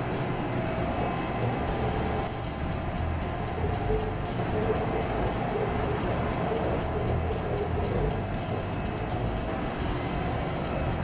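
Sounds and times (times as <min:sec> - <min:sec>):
machinery rumble with whine and hum: 0:00.0 - 0:11.0.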